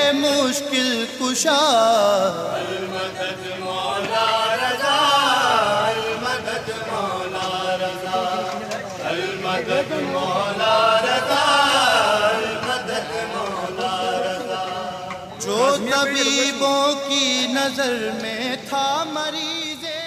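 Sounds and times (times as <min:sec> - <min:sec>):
man singing in chanting style: 0:00.0 - 0:20.0.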